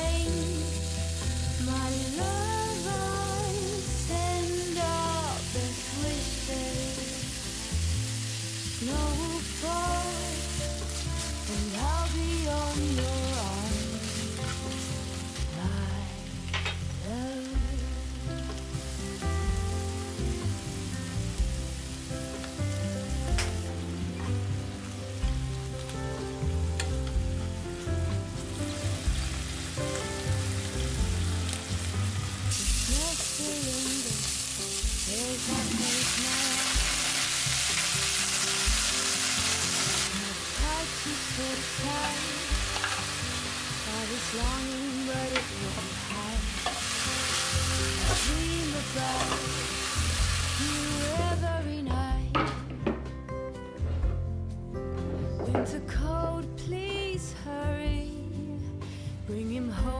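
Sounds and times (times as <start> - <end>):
meat sizzling in a frying pan: 0.0 - 51.3
vegetables sizzling: 0.0 - 51.4.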